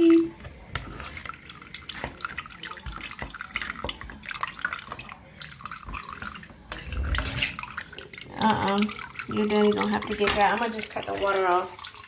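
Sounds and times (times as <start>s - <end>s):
water running and dripping: 0.0s - 12.0s.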